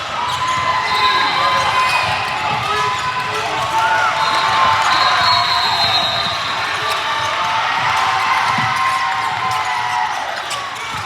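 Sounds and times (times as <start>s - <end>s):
sneakers squeaking on court floor: 0.0s - 11.0s.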